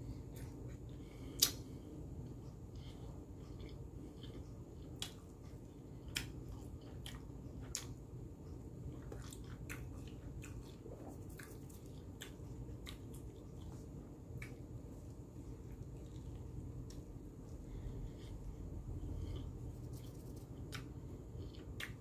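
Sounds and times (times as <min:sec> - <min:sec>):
steady low hum: 0:00.0 - 0:22.0
chewing with wet mouth clicks: 0:00.3 - 0:01.6, 0:02.2 - 0:14.8, 0:15.4 - 0:18.5, 0:19.2 - 0:22.0.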